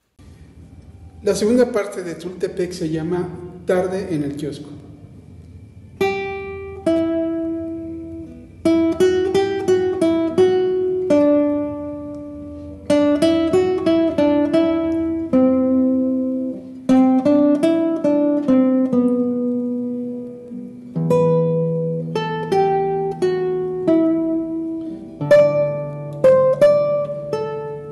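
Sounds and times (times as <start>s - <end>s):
classical guitar fingerstyle: 5.4s - 27.9s.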